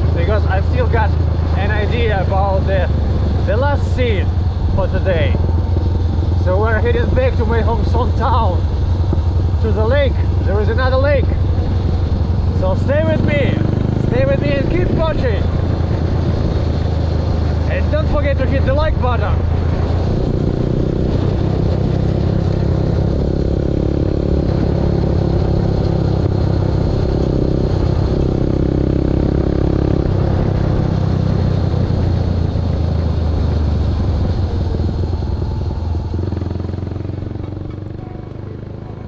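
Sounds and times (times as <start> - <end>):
motorcycle engine running: 0.0 - 39.0
wind and road noise: 0.0 - 39.0.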